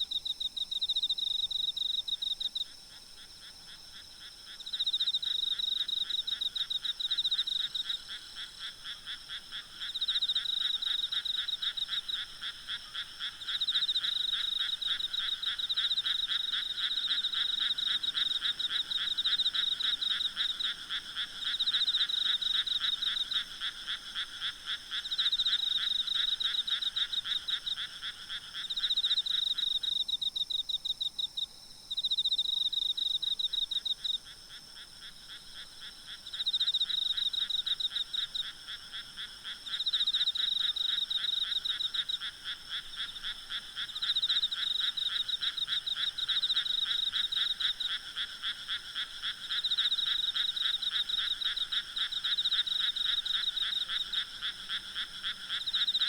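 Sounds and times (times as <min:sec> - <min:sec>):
low continuous frog chorus: 0:00.0 - 0:56.0.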